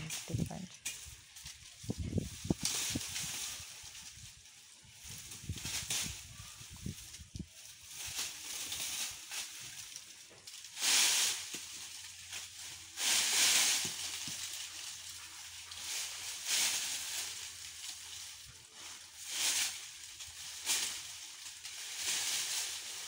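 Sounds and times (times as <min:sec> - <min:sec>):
dry vines and leaves rustling: 0:00.0 - 0:23.0.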